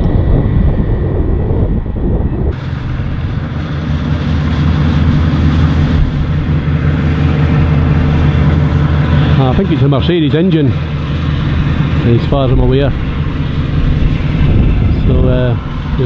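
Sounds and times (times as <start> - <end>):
combine harvester engine hum: 0.0 - 16.0.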